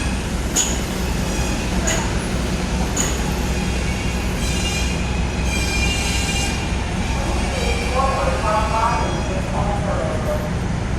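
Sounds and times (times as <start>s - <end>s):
subway train rumble: 0.0s - 10.9s
high wheel squeal: 0.6s - 9.6s.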